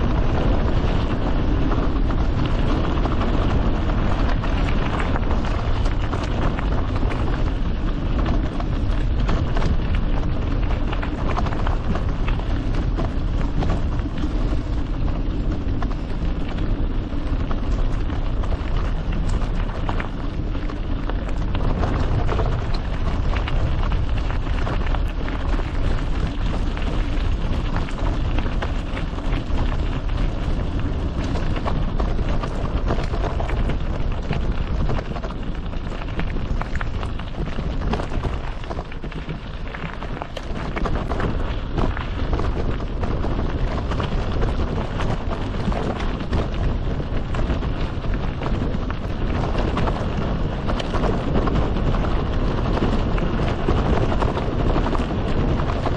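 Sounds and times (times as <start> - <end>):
bike tyres crunching on gravel: 0.0 - 55.9
low rumble: 0.0 - 55.9.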